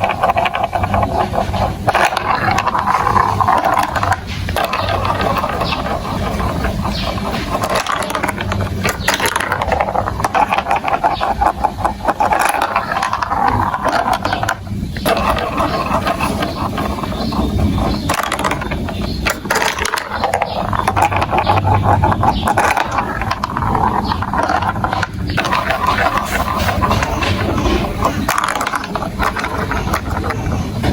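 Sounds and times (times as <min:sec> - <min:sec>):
marbles rattling on plastic track: 0:00.0 - 0:30.9.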